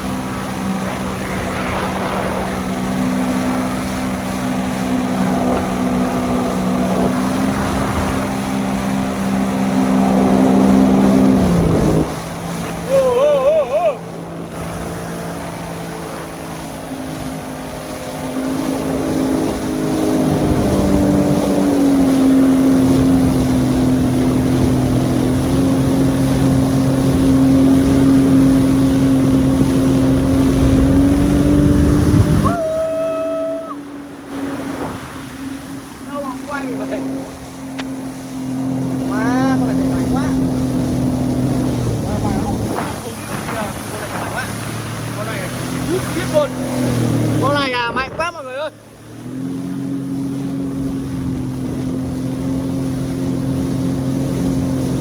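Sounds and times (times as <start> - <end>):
wind buffeting microphone: 0.0 - 13.2, 14.0 - 48.5
jet ski engine running: 0.0 - 55.0.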